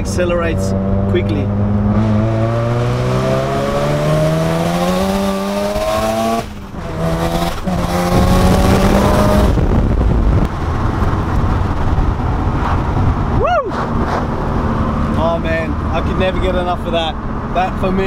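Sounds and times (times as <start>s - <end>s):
rotary engine accelerating: 0.0s - 18.0s
loud rushing noise: 0.8s - 16.0s.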